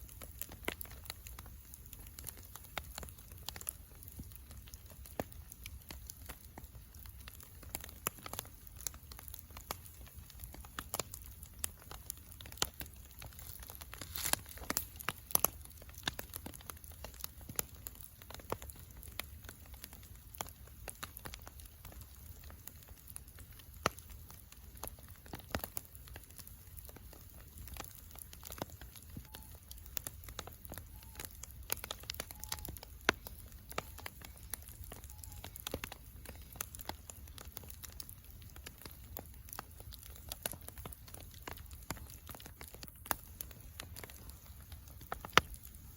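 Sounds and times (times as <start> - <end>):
bonfire crackling and popping: 0.0 - 45.9.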